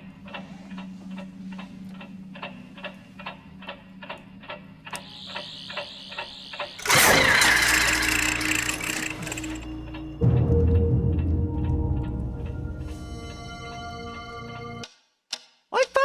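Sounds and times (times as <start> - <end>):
clockwork ticking: 0.0 - 14.0
low hum: 0.0 - 14.8.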